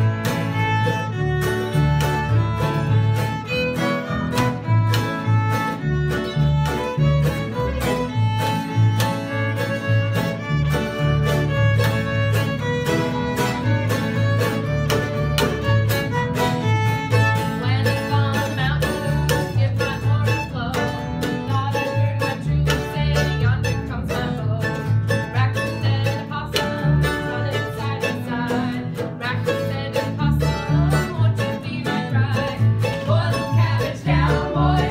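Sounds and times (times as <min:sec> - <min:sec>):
acoustic guitar strumming: 0:00.0 - 0:34.9
fiddle melody: 0:00.0 - 0:34.9
strummed mandolin: 0:00.0 - 0:34.9
upright bass plucking: 0:00.0 - 0:34.9.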